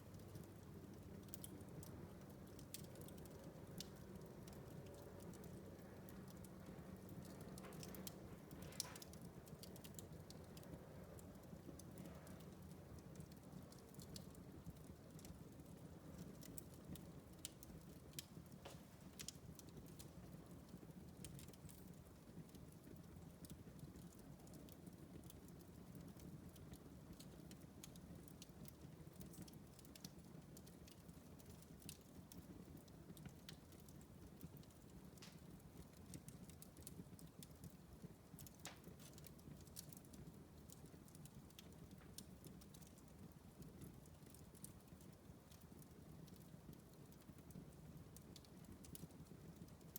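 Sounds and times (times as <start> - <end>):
fire snaps and pops: 0.0 - 49.9
low rush of burning logs: 0.0 - 49.9.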